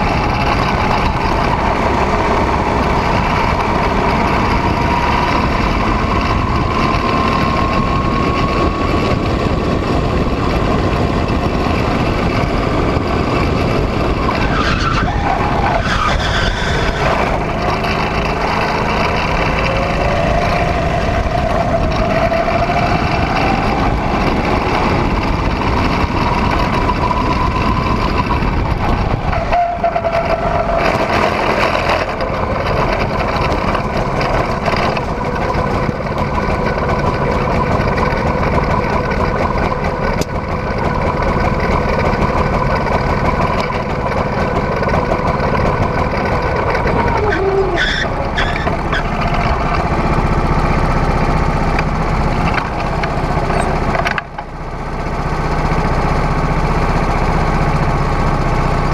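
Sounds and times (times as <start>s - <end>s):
go-kart engine running: 0.0s - 58.9s.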